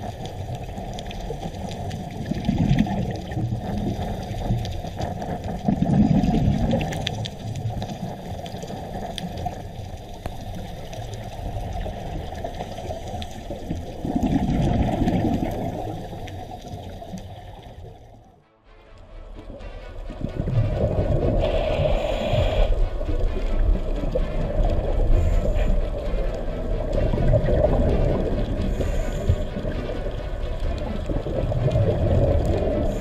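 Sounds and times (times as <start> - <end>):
underwater watery rush: 0.0 - 33.0.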